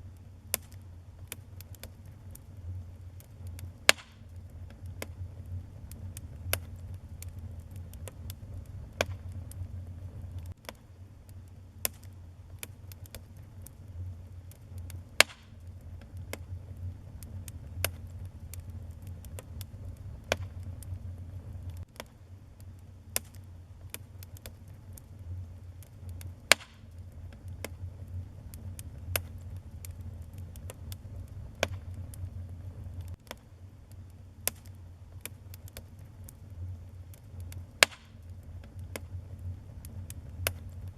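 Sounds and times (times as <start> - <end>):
wood fire crackling: 0.0 - 40.9
loud fire pops: 0.1 - 40.9.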